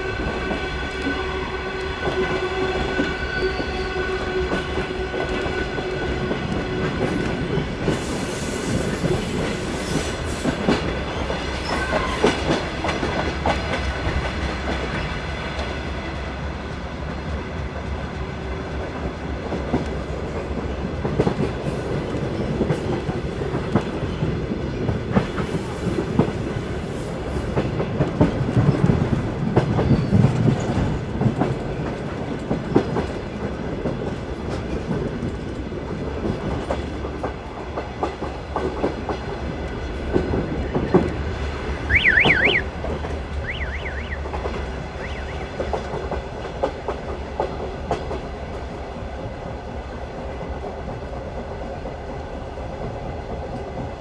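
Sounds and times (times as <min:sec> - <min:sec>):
train rumbling: 0:00.0 - 0:54.0
train wheels clattering on rails: 0:00.0 - 0:54.0.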